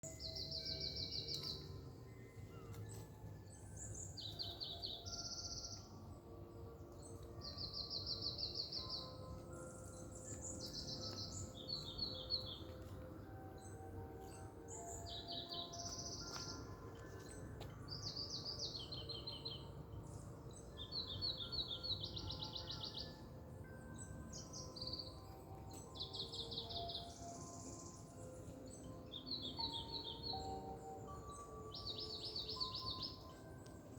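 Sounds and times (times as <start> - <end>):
faint background music: 0.0 - 33.9
songbirds trilling: 0.1 - 33.9.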